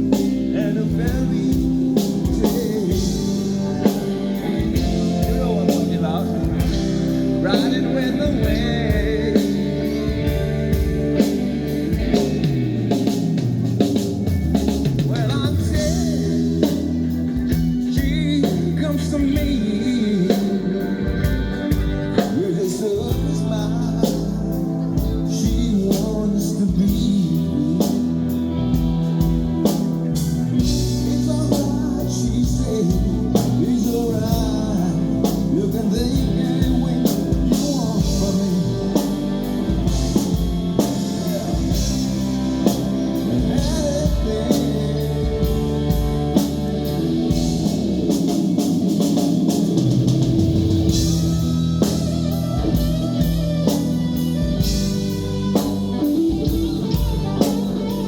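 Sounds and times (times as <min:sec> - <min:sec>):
bass and drum kit: 0:00.0 - 0:58.0
electric guitar: 0:00.0 - 0:58.0.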